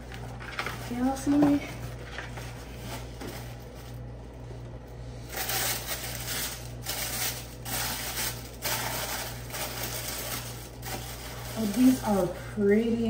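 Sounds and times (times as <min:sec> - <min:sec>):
packaging rustling and crinkling: 0:00.0 - 0:04.1, 0:05.3 - 0:12.4.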